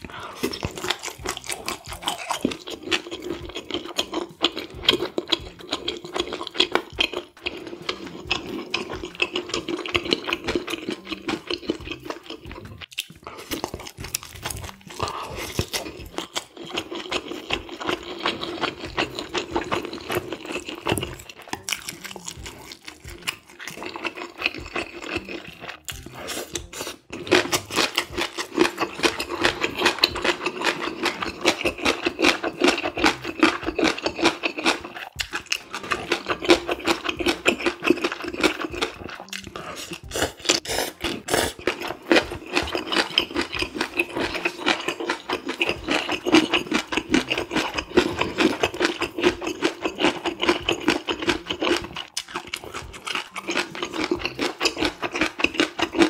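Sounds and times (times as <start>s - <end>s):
slurping: 0.0s - 56.0s
wet chewing and mouth smacks: 0.0s - 56.0s.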